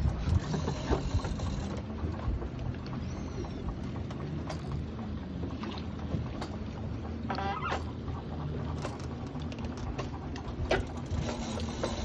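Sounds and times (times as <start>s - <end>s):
boat engine humming: 0.0s - 12.0s
wind and sea: 0.0s - 12.0s.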